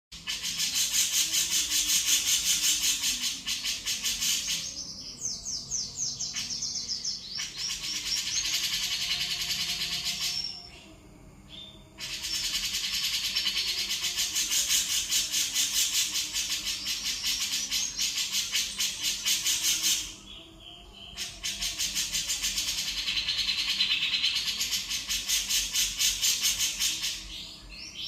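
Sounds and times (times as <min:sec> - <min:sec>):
bulbul singing: 0:00.1 - 0:28.0.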